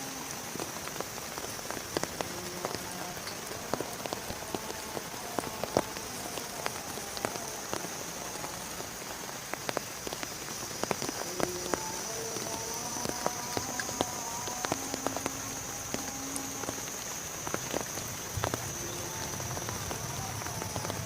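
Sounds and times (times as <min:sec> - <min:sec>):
raindrops tapping a surface: 0:00.0 - 0:21.0
steady rain: 0:00.0 - 0:21.0.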